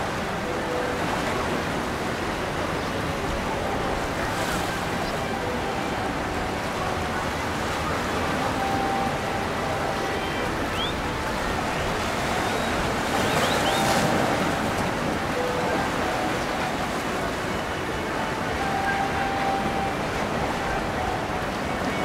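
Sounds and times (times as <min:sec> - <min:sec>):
ocean waves rushing: 0:00.0 - 0:22.0.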